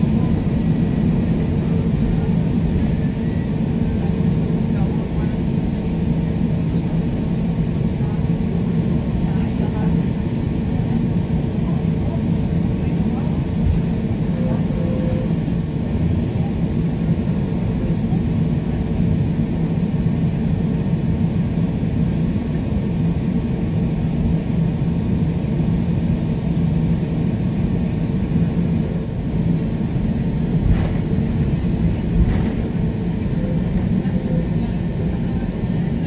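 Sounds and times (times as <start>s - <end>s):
constant cabin hum: 0.0s - 36.0s
jet engines idling rumble: 0.0s - 36.0s.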